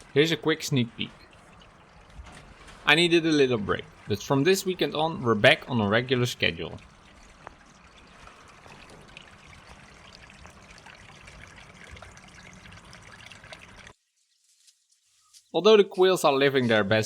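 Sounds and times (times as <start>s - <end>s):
trickling water: 0.0s - 17.0s.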